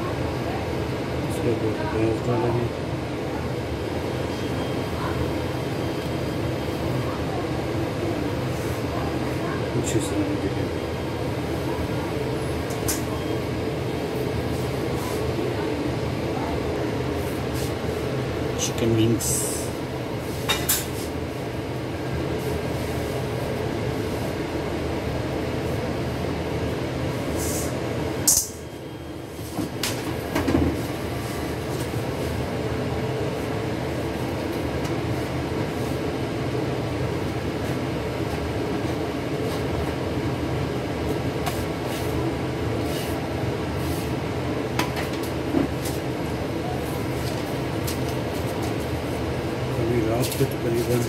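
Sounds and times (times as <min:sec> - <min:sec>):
kitchen equipment drone: 0:02.3 - 0:51.0.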